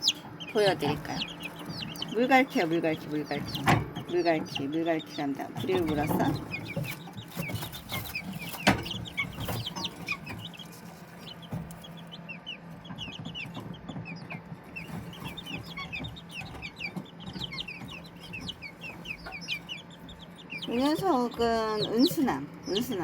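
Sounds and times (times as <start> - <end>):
chicks peeping: 0.0 - 23.0
steady low hum: 0.0 - 23.0.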